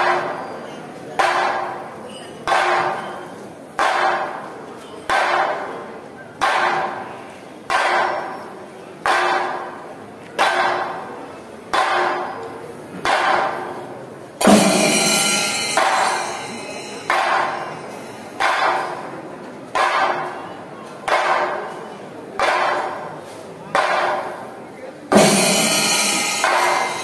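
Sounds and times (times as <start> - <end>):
drums and cymbals ensemble: 0.0 - 27.0.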